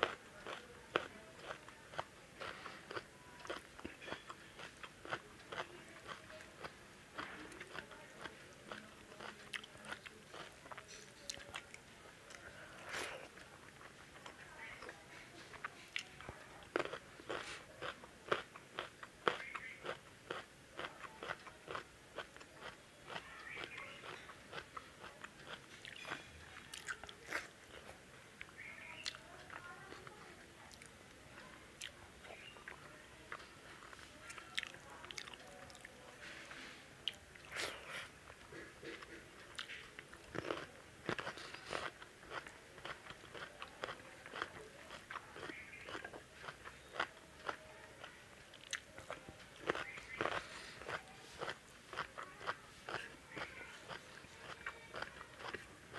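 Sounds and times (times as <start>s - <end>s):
person chewing food: 0.0s - 36.0s, 36.6s - 55.9s.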